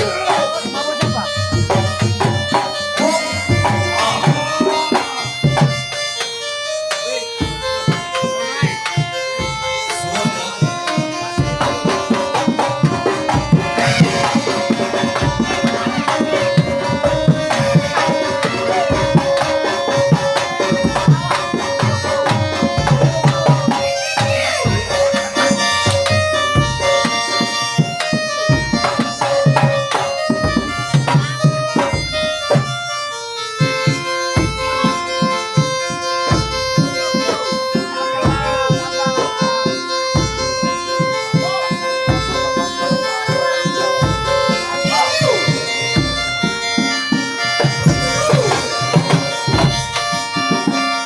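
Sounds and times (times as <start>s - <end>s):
hand drums beating: 0.0s - 51.0s
reedy wind instrument melody: 0.0s - 51.0s.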